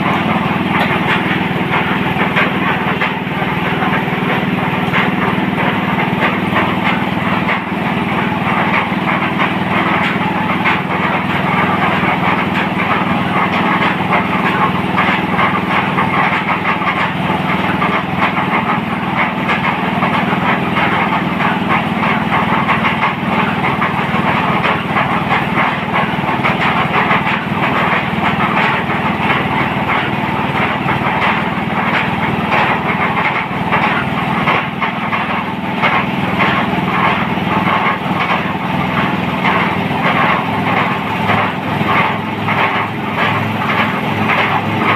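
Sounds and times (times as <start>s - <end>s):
drilling machine engine running: 0.0s - 44.9s.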